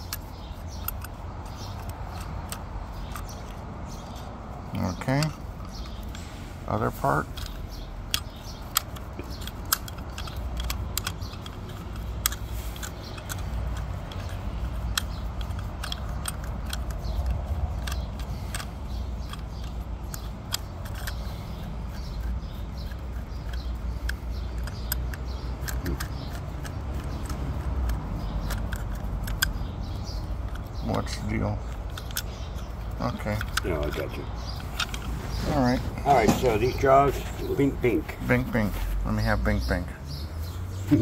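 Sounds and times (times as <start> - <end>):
metal clicks and taps of screwdriver: 0.0 - 4.3, 4.9 - 6.2, 7.2 - 35.1.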